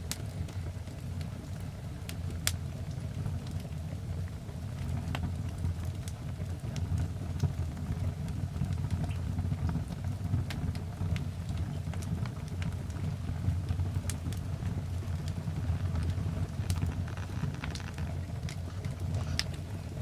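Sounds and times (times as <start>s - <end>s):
fire low rumble: 0.0s - 20.0s
wood fire crackling and popping: 0.0s - 20.0s.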